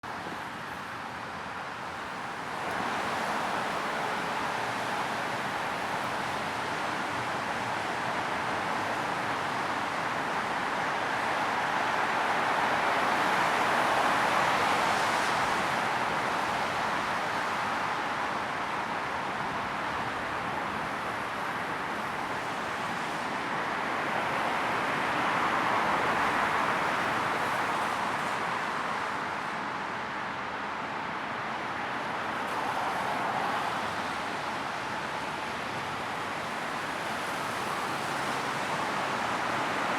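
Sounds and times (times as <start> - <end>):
tyres hissing on wet road: 0.1 - 39.9.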